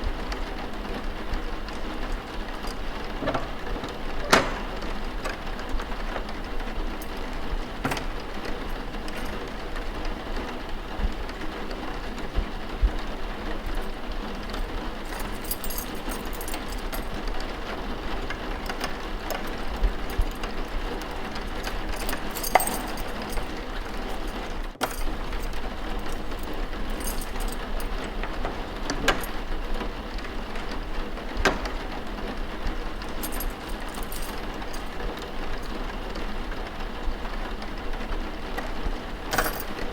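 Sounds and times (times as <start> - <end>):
steady rain: 0.0 - 15.1, 16.1 - 22.5, 23.1 - 33.8, 34.4 - 39.9.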